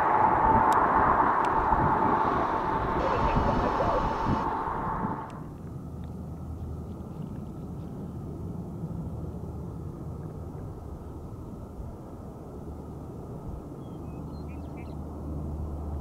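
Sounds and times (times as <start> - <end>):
distant jet aircraft rumble: 0.0 - 16.0.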